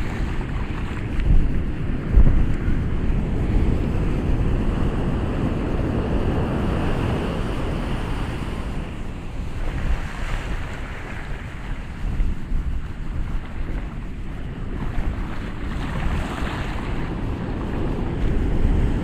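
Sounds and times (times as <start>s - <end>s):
ocean waves washing in: 0.0s - 19.0s
wind rumbling on microphone: 0.0s - 19.0s.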